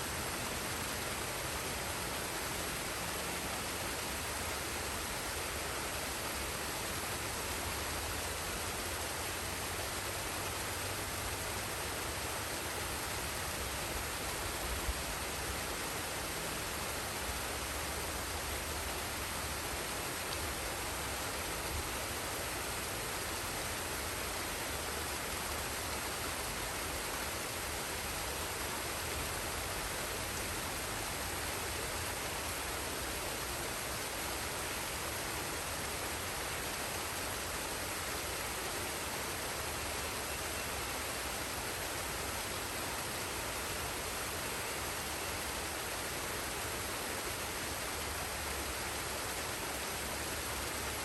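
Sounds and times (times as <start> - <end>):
waterfall rushing water: 0.0 - 51.0.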